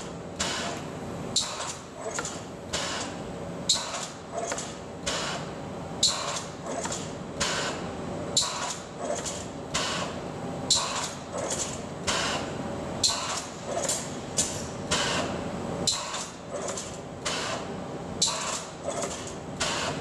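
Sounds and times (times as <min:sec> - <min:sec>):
pneumatic nail gun shots: 0:00.4 - 0:00.8, 0:01.4 - 0:07.8, 0:08.4 - 0:20.0.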